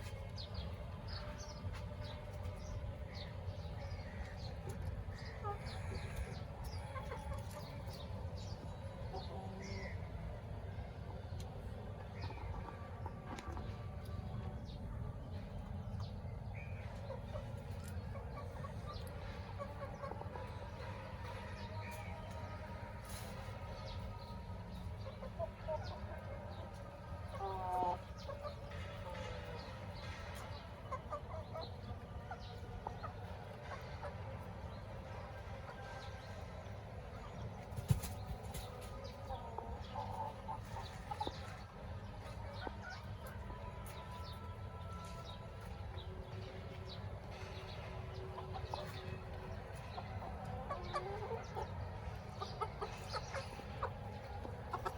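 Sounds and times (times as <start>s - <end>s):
chickens clucking: 0.0s - 54.9s.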